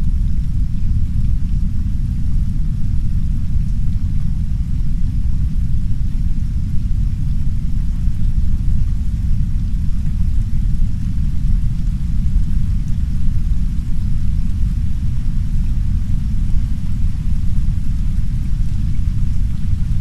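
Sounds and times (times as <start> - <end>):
faint soft rain hiss: 0.0 - 20.0
loud steady deep rumble: 0.0 - 20.0.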